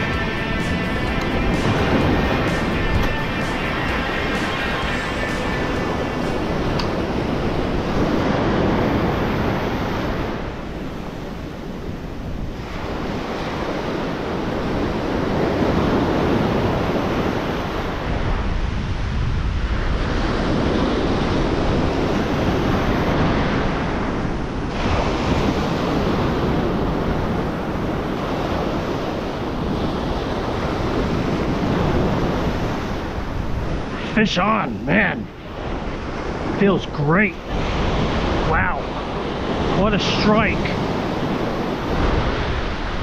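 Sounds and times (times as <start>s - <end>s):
ocean surf breaking: 0.0s - 43.0s
wind buffeting microphone: 0.0s - 43.0s.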